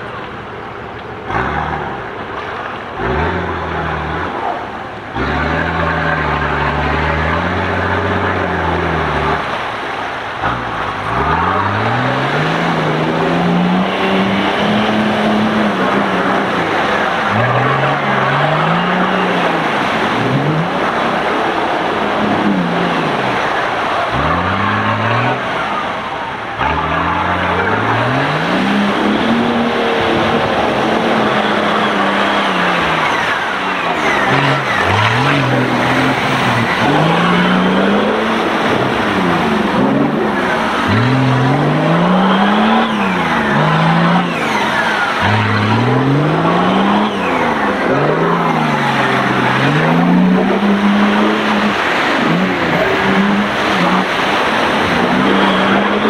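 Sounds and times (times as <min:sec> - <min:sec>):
off-road engines revving: 0:00.0 - 0:56.0
tyres splashing in mud: 0:00.0 - 0:56.0.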